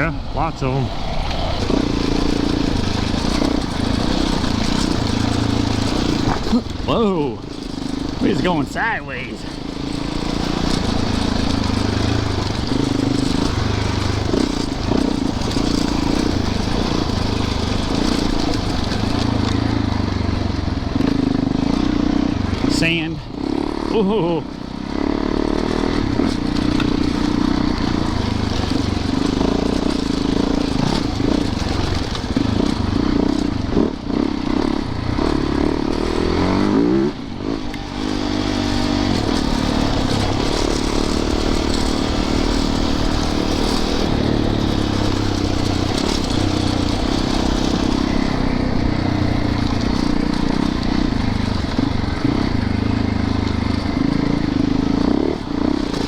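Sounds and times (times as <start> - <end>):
bike rattling: 0.0 - 56.0
dirt bike engine revving: 0.0 - 56.0.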